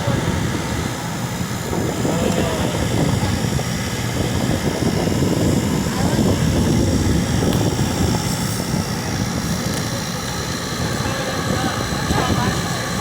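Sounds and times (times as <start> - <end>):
air conditioner fan whooshing: 0.0 - 13.0
thin high whine: 0.0 - 13.0.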